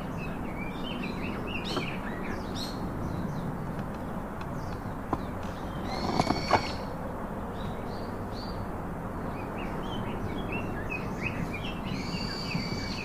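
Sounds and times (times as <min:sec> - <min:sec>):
outdoor background hiss: 0:00.0 - 0:13.0
songbirds chirping: 0:00.0 - 0:13.0.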